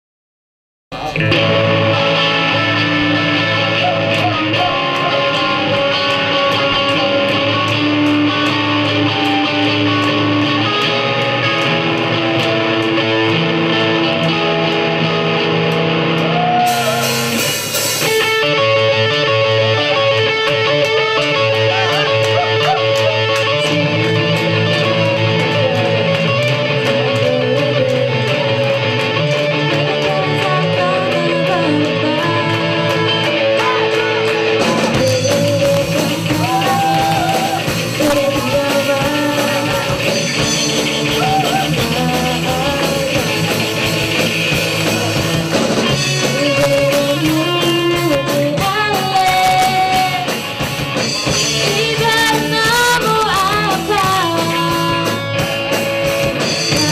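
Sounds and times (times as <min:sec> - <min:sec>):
electric guitar: 0:00.9 - 0:56.9
steady drum beat: 0:01.0 - 0:56.9.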